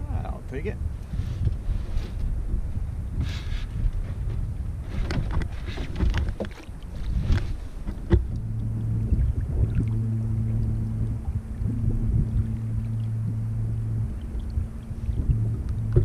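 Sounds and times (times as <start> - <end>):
steady low hum: 0.0 - 16.0
wind noise on microphone: 0.0 - 16.0
gear knocking against kayak hull: 3.2 - 16.0.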